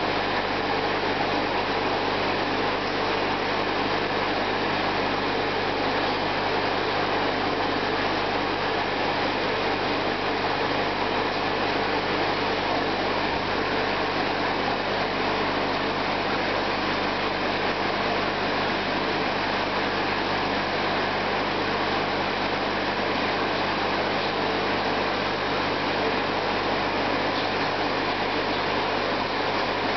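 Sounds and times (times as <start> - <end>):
aquarium pump hum: 0.0 - 29.9.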